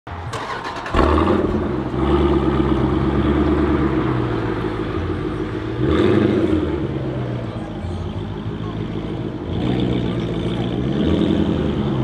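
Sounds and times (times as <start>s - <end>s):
car engine starting and idling: 0.1s - 12.0s.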